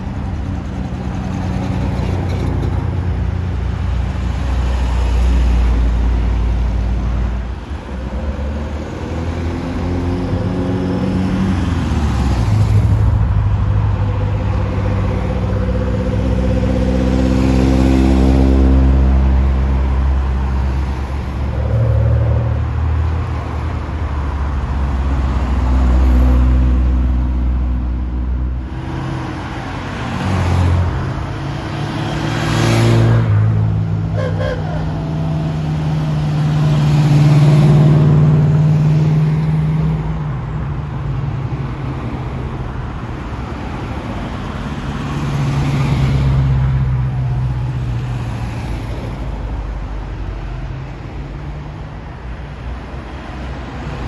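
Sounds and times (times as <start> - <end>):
vehicle engines passing: 0.0 - 54.0.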